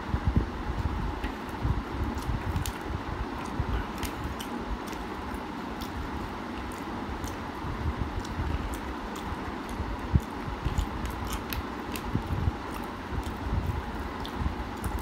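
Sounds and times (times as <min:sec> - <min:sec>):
man chewing: 0:01.2 - 0:15.0.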